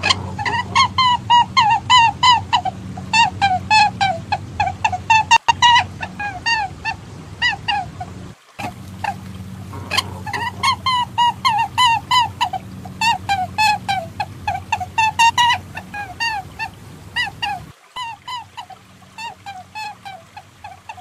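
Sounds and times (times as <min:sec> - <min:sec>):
honking bird-like calls: 0:00.0 - 0:21.0
steady low hum: 0:00.0 - 0:21.0.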